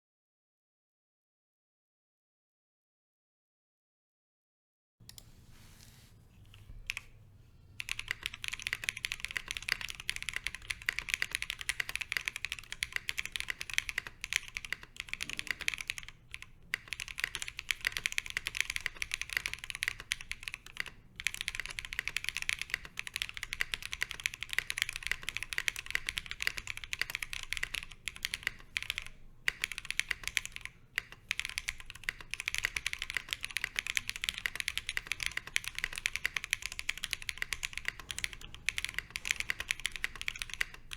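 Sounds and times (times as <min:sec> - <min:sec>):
fast mechanical keyboard typing: 0:07.8 - 0:40.9.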